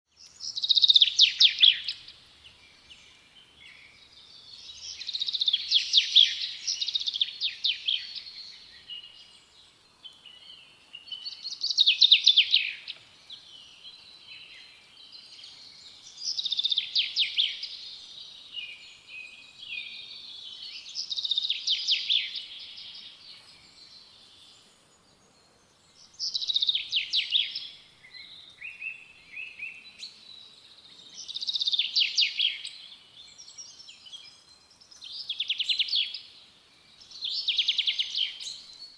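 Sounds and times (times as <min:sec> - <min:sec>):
soft bird chirps: 0:00.1 - 0:38.9.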